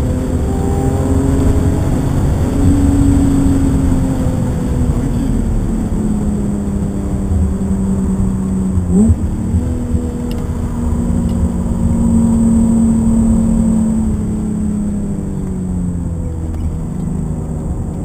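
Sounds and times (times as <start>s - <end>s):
car engine revving: 0.0s - 18.0s
road noise: 0.0s - 18.0s.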